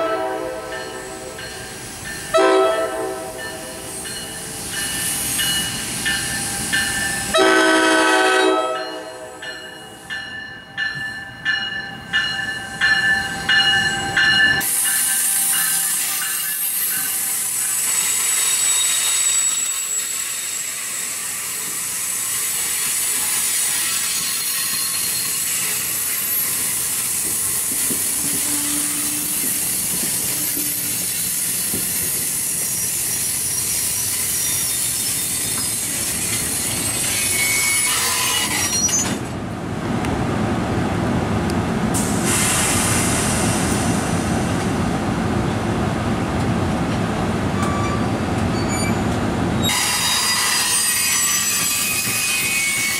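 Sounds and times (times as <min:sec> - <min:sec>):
train wheels and brakes squealing: 0:00.0 - 0:39.4, 0:42.0 - 0:44.3, 0:47.6 - 0:52.9
train rushing noise: 0:00.0 - 0:52.9.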